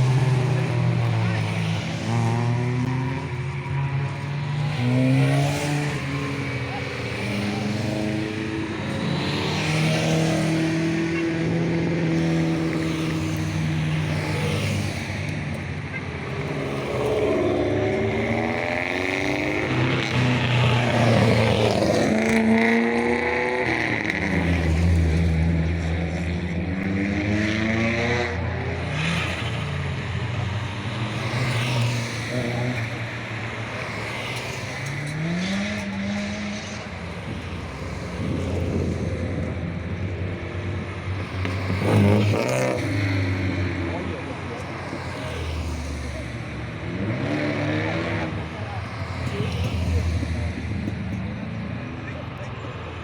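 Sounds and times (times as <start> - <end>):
car engines revving hard: 0.0 - 53.0.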